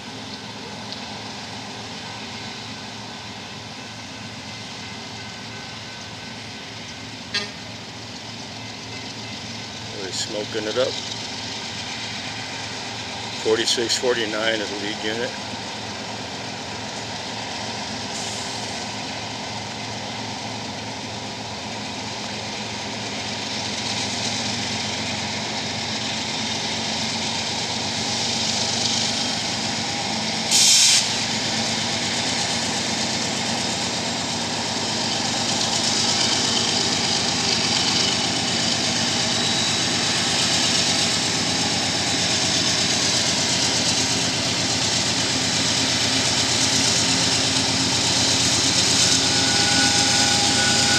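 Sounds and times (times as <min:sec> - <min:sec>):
diesel locomotive engines droning: 0:00.0 - 0:50.9.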